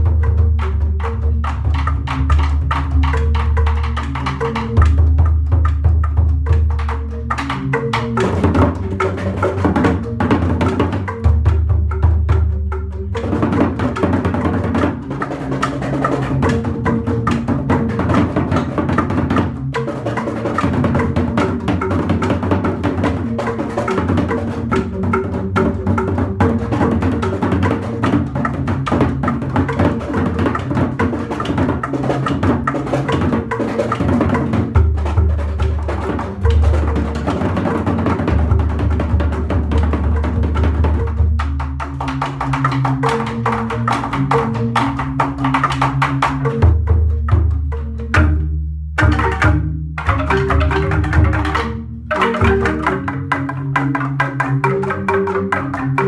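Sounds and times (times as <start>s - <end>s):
bamboo gamelan ensemble playing: 0.0s - 56.0s.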